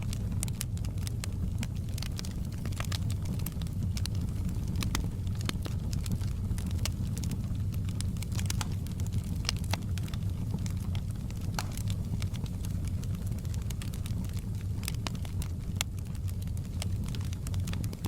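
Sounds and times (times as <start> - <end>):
low rumble of burning: 0.0 - 18.0
wood fire crackling: 0.0 - 18.0.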